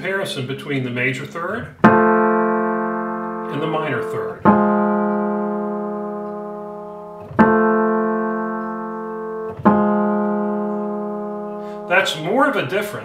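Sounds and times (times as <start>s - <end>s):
piano chords ringing: 1.7s - 13.0s.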